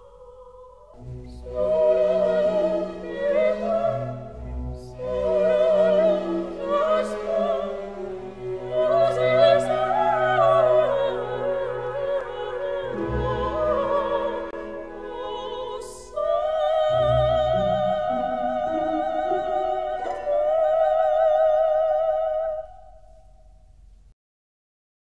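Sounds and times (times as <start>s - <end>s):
operatic singer with vibrato: 0.0s - 23.0s
orchestral accompaniment: 1.0s - 22.7s.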